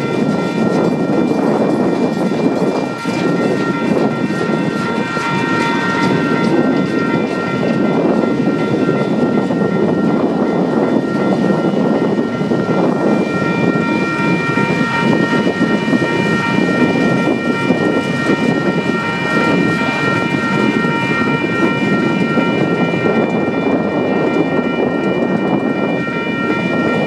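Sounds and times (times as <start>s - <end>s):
high-pitched steady tones: 0.0s - 27.0s
train wheels rumbling on rail: 0.0s - 27.0s.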